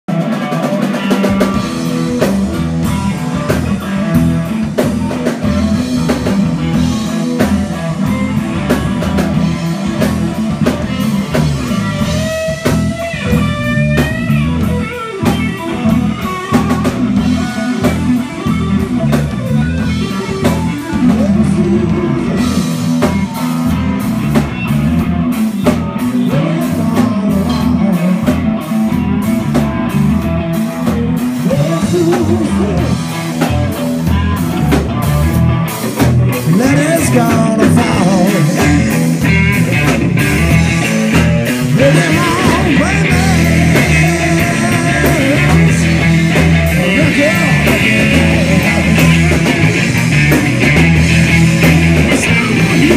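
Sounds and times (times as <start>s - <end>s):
drum kit: 0.1s - 52.9s
electric guitars: 0.1s - 52.9s.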